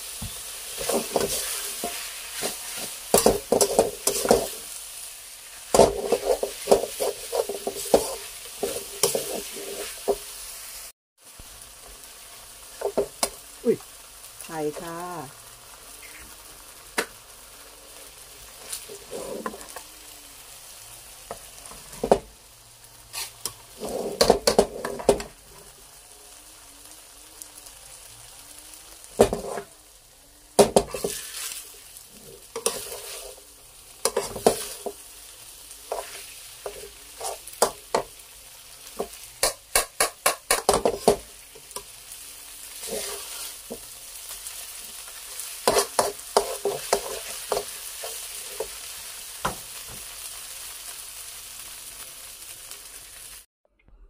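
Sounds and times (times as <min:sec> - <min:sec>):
noodles sizzling in a wok: 0:00.0 - 0:53.5.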